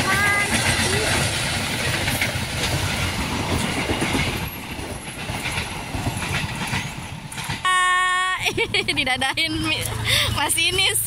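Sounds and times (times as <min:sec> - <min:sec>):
rail clacks: 0:00.0 - 0:11.0
train wheels rolling on rails: 0:00.0 - 0:11.0.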